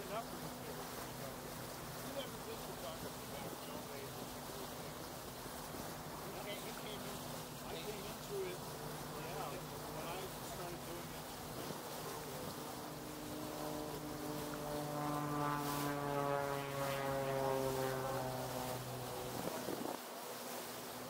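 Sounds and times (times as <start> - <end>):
motorboat engine buzzing: 0.0 - 21.0.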